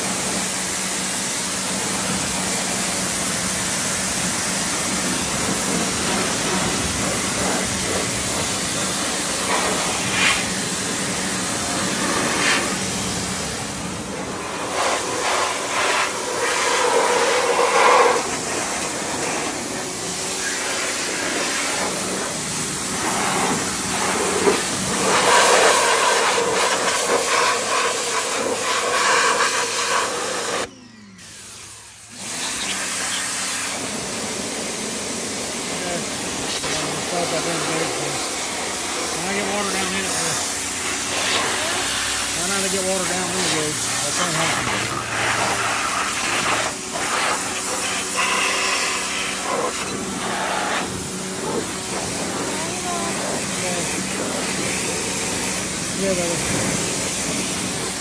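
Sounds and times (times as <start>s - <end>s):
pressure washer spraying water: 0.0s - 58.0s.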